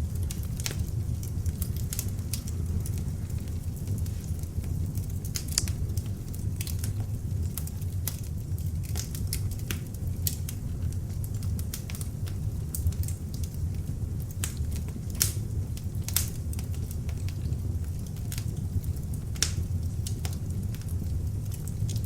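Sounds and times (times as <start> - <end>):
log fire crackling and popping: 0.0 - 22.0
low rumble of flames: 0.0 - 22.0.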